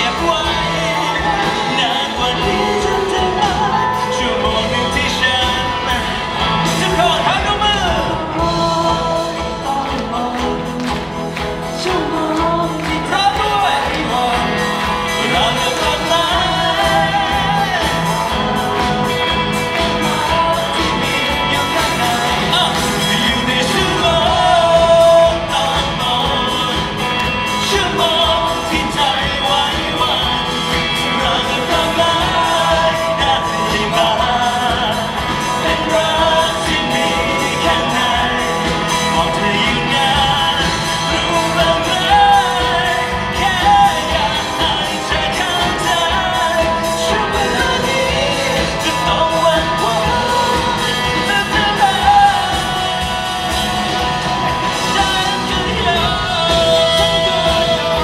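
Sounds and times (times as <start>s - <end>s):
lead singer singing: 0.0s - 58.0s
live pop band playing: 0.0s - 58.0s.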